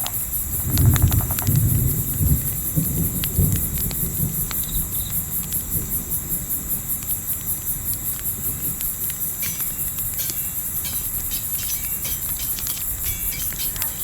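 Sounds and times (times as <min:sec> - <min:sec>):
campfire crackling: 0:00.0 - 0:14.0
crickets chirping: 0:00.0 - 0:14.0.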